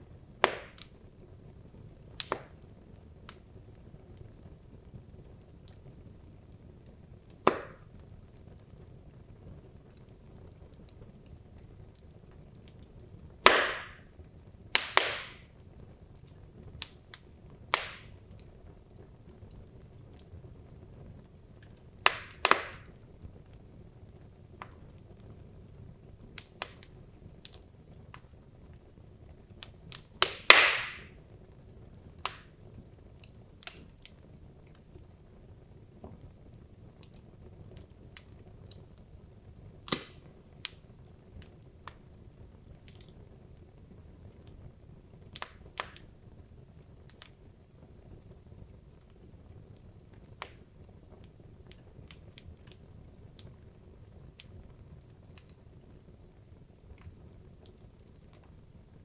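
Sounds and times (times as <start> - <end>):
logs popping and crackling: 0.1 - 59.0.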